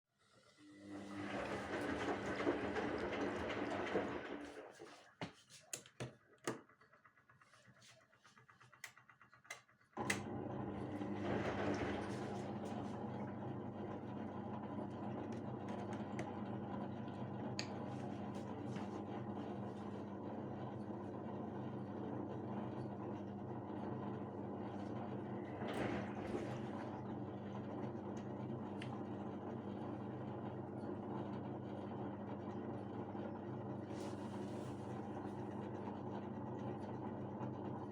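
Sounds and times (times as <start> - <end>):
washing machine running: 0.2 - 37.9.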